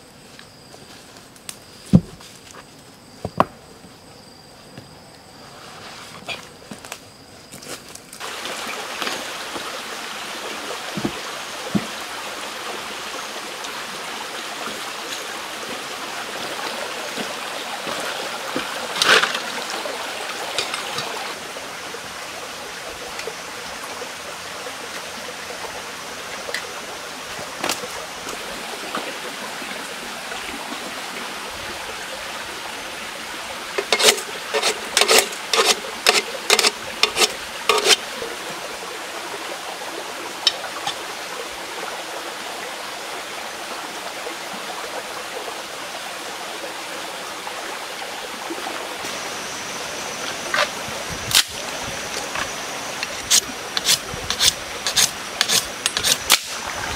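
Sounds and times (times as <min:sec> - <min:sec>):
steady background hiss: 0:00.0 - 0:56.9.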